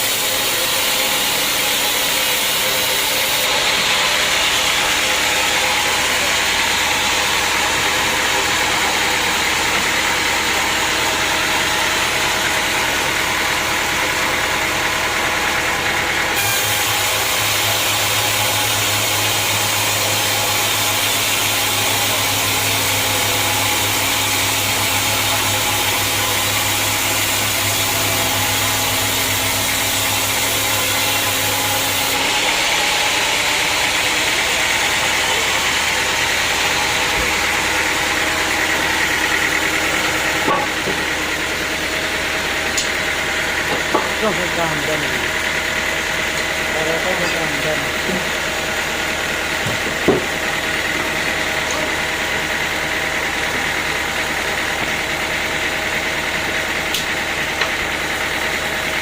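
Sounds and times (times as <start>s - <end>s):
sawmill machinery din: 0.0s - 59.0s.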